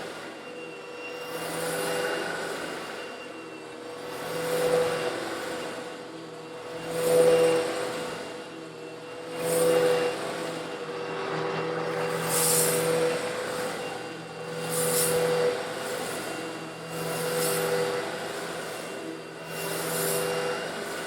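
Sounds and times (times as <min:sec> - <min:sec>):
vacuum cleaner motor hum: 0:00.0 - 0:21.0.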